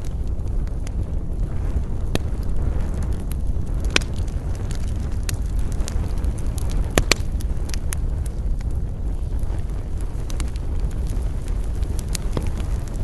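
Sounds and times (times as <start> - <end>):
campfire crackling and popping: 0.0 - 13.0
wind: 0.0 - 13.0.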